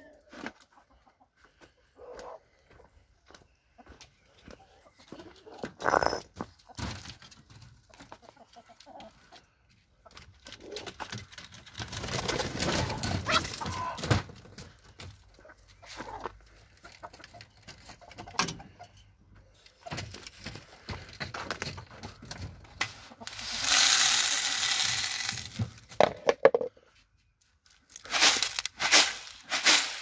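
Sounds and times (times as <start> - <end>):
chickens clucking: 0.0 - 11.2, 12.1 - 25.4.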